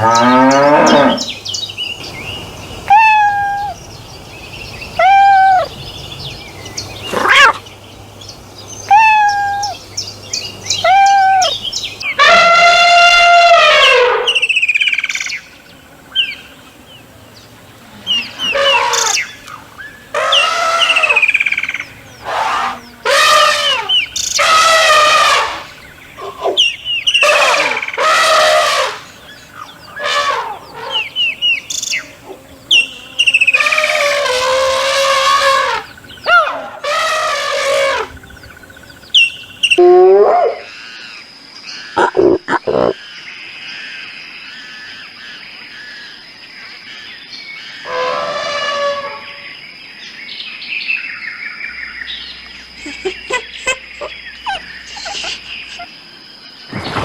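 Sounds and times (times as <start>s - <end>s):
bird harsh calls: 0.0s - 43.2s, 51.0s - 57.0s.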